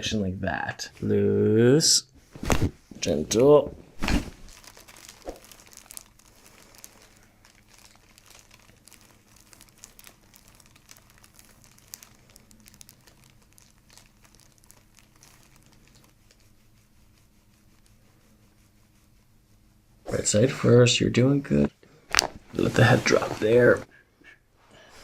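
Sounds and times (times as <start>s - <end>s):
rustling on treatment table: 2.2s - 20.3s, 21.6s - 23.9s.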